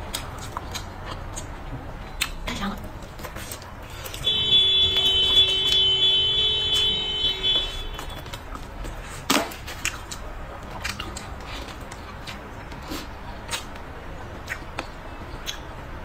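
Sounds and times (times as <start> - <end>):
chewing with crunches: 0.0 - 5.8, 7.6 - 15.9.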